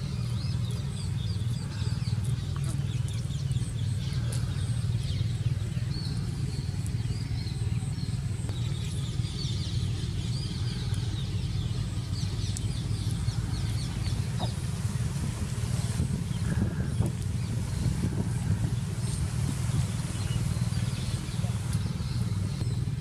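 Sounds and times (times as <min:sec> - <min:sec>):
small birds chirping: 0:00.0 - 0:23.0
steady low rumble: 0:00.0 - 0:23.0.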